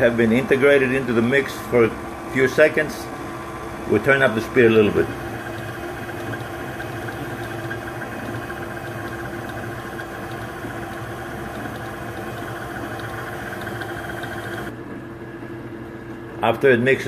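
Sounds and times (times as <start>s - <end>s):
stand mixer motor humming: 0.0s - 14.8s.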